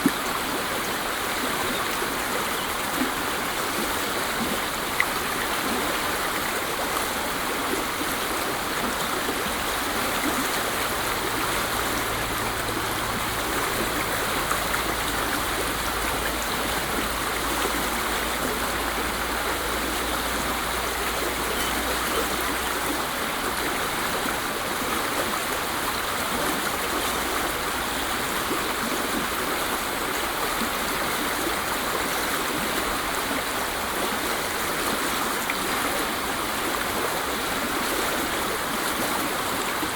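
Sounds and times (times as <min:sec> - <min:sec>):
waterfall rushing: 0:00.0 - 0:34.8.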